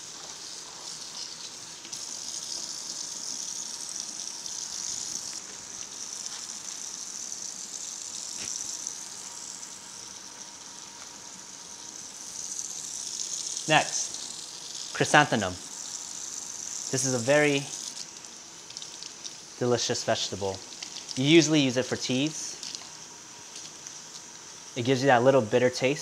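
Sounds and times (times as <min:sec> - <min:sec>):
faucet water running: 0:00.0 - 0:26.0.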